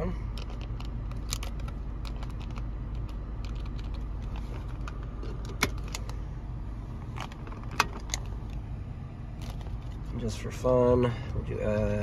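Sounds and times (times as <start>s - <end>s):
low rumble in car cabin: 0.0s - 12.0s.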